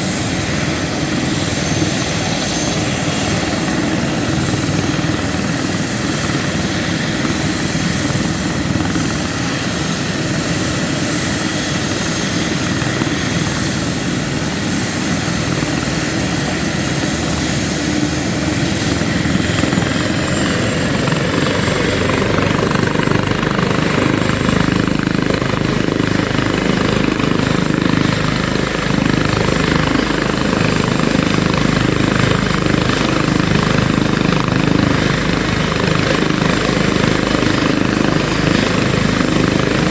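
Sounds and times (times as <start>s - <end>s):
helicopter turbine and rotor: 0.0s - 39.9s
high-pitched turbine whine: 0.0s - 39.9s.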